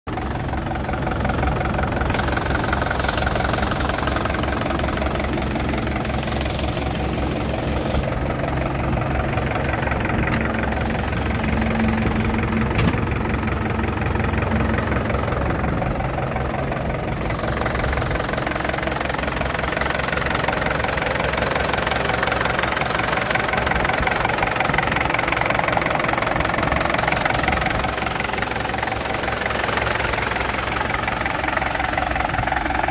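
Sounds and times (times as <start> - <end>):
tractor engine idling: 0.1 - 32.9.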